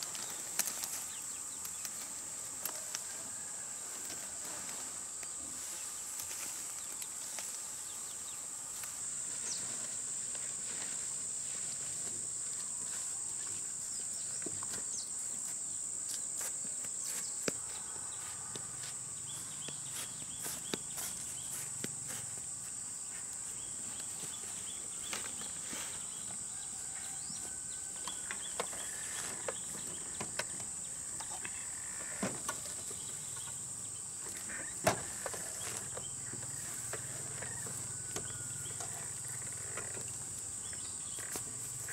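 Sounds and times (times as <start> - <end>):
insects droning high-pitched: 0.0 - 41.9
rustles: 0.0 - 41.9.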